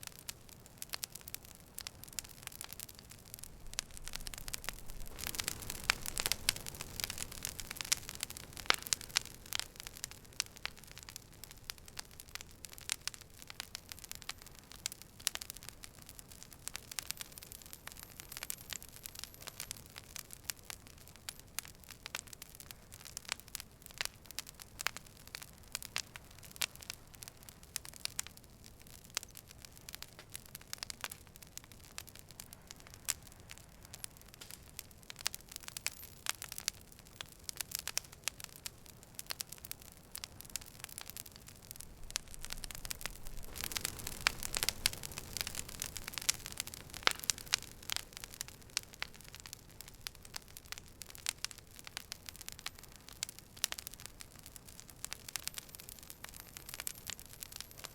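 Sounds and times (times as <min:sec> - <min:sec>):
campfire crackling and popping: 0:00.0 - 0:57.9
low hiss of flames: 0:00.0 - 0:57.9.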